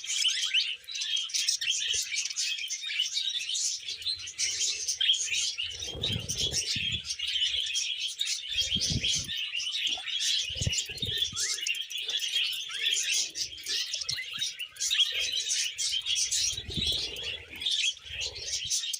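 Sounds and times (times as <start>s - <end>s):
budgerigars chirping and warbling: 0.0s - 18.9s.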